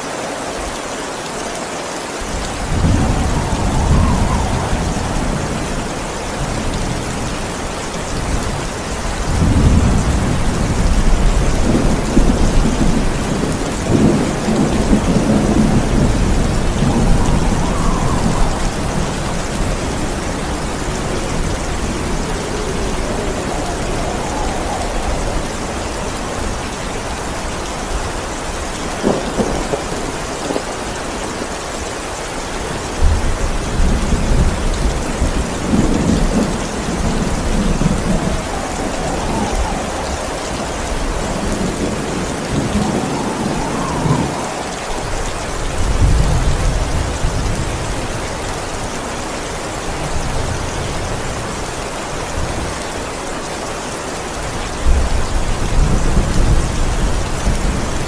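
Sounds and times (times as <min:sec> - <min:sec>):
heavy rain: 0:00.0 - 0:58.0
low thunder rumbling: 0:02.2 - 0:52.7, 0:54.4 - 0:58.0.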